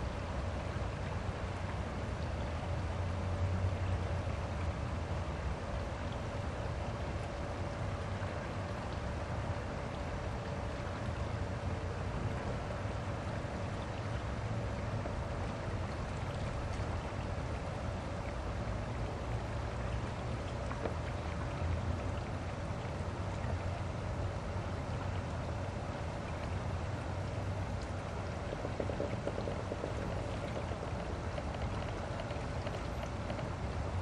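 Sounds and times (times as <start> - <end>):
faint steady hum: 0.0 - 34.0
flowing river water: 0.0 - 34.0.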